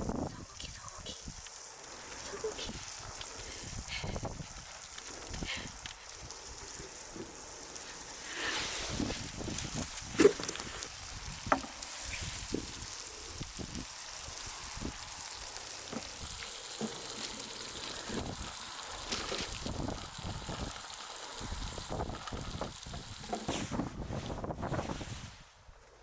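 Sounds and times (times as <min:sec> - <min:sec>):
meat sizzling in a pan: 0:00.0 - 0:25.2.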